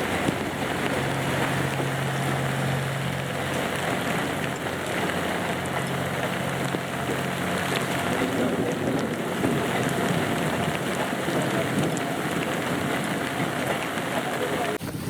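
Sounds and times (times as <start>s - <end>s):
diesel locomotive engines droning: 0.0s - 15.0s
heavy rain falling: 0.0s - 15.0s.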